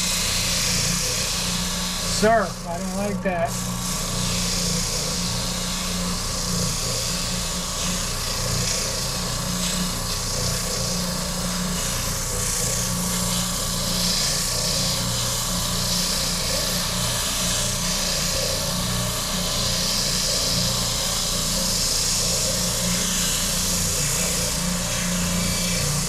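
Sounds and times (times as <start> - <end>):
electric sander grinding wood: 0.0 - 26.0.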